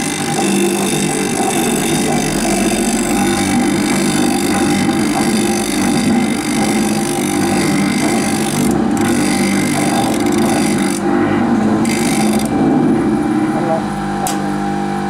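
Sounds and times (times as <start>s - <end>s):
electric motor humming: 0.0s - 15.0s.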